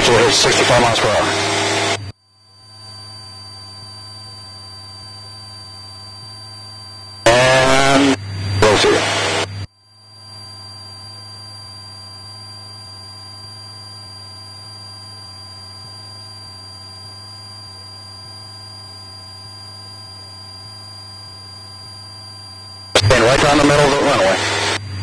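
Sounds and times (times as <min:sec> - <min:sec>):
thin high whine: 0:00.0 - 0:25.0.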